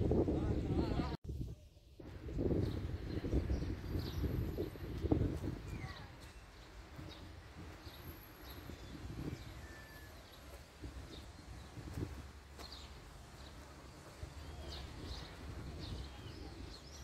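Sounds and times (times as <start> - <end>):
low wind rumble: 0.0 - 17.0
small birds chirping: 1.6 - 17.0.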